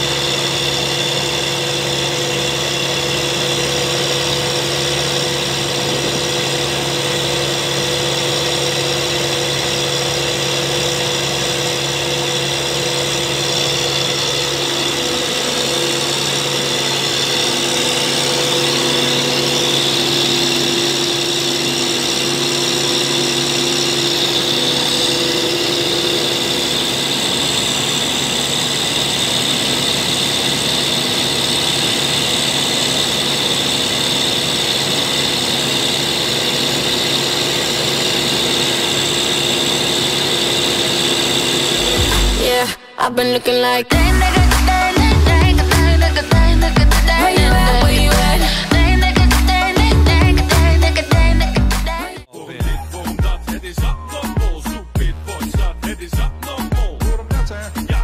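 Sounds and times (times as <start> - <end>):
diesel engine running: 0.0 - 58.0
high mechanical whine: 0.0 - 58.0.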